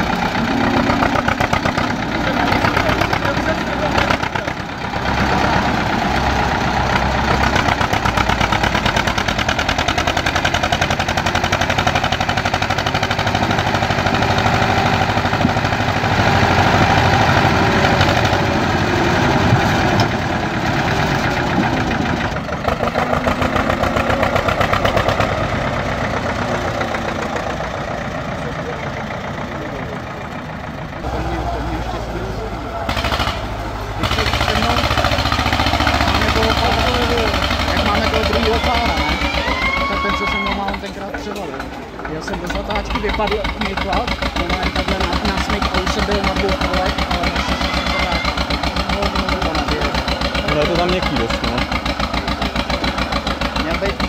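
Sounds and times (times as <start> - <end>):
tractor engine chugging: 0.0 - 54.0.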